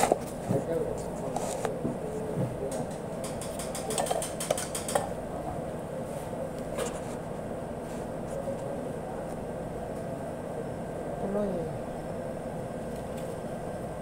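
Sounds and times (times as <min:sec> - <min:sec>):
air conditioning and refrigeration hum: 0:00.0 - 0:14.0.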